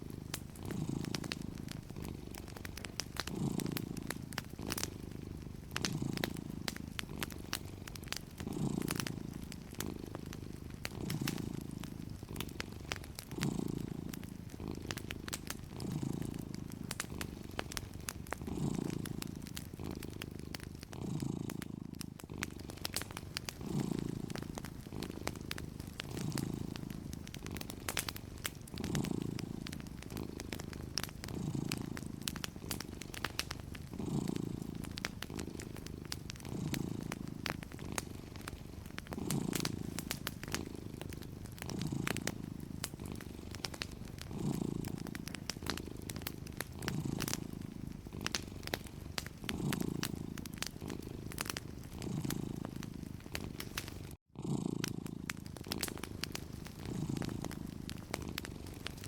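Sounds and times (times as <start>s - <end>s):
cat purring: 0.0s - 59.0s
wood fire crackling: 0.0s - 59.0s.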